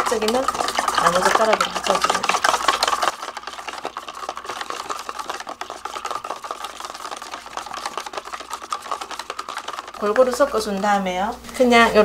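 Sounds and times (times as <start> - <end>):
chopsticks stirring in carton: 0.0 - 11.4.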